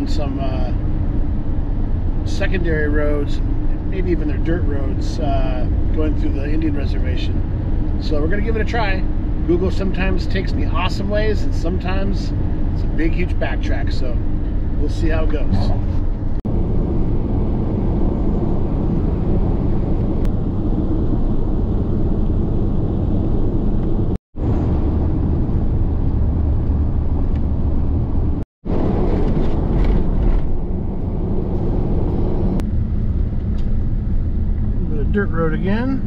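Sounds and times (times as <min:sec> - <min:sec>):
truck engine and tyre rumble: 0:00.0 - 0:36.0.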